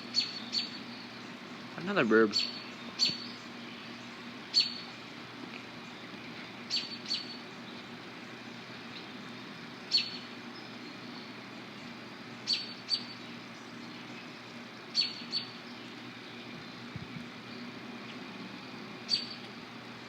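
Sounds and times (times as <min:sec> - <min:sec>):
bird chirping: 0:00.0 - 0:05.2, 0:05.8 - 0:17.8, 0:19.0 - 0:19.5.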